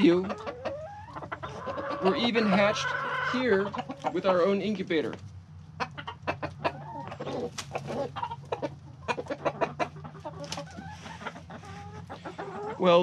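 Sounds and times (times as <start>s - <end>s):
hens and roosters clucking: 0.0s - 13.0s.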